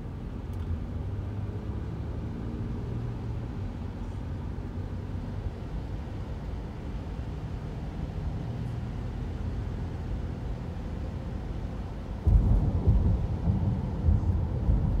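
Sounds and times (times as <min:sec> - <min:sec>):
car driving on wet road: 0:00.2 - 0:15.0.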